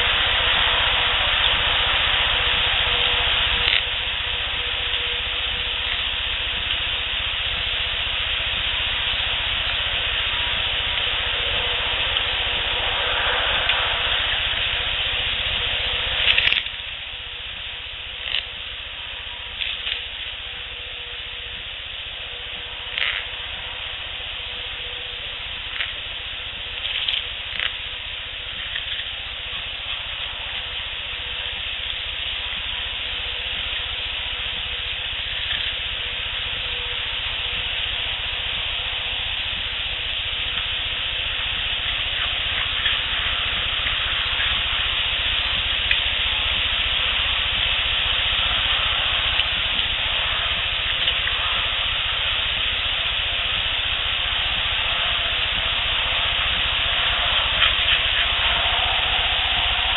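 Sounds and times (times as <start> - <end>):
steady field recording hiss: 0.0 - 59.9.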